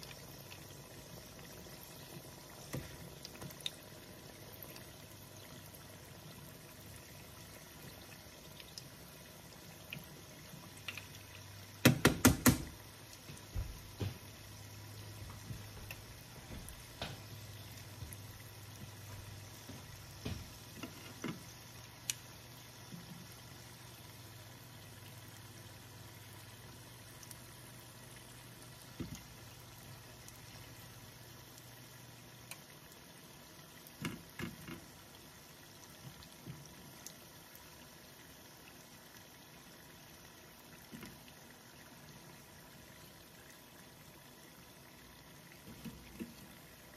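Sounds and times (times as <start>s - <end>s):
food deep-frying in oil: 0.0s - 46.9s.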